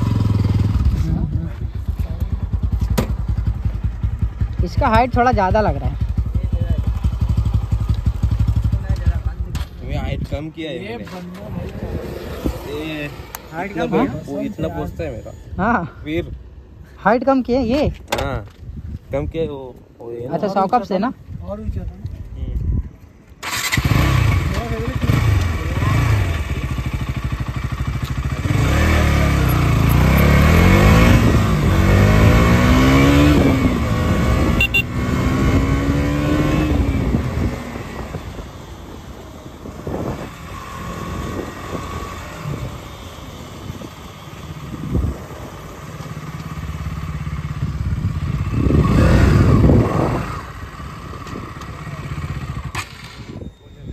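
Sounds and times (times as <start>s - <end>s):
motorcycle engine accelerating: 0.0s - 14.4s, 23.4s - 53.9s.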